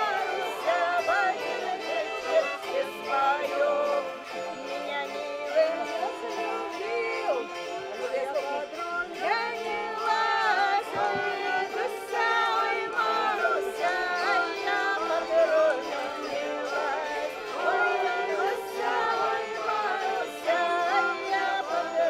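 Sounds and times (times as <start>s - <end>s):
voices singing: 0.0s - 22.0s.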